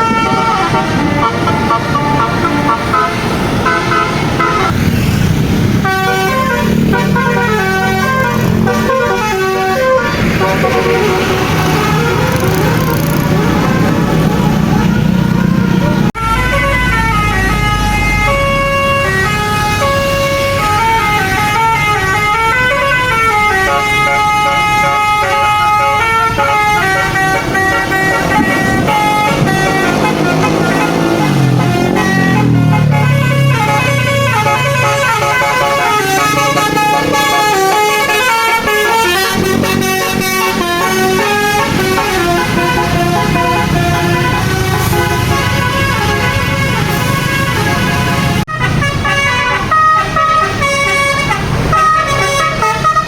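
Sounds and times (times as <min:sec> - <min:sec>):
bus horn playing a melody: 0:00.0 - 0:53.0.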